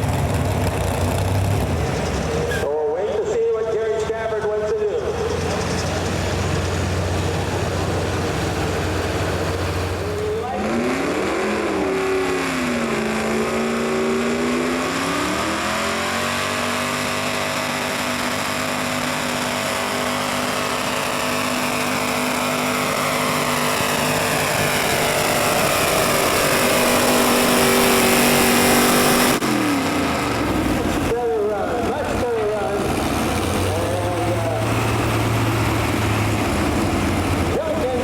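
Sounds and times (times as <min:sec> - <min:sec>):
engine revving at full throttle: 0:05.2 - 0:38.0.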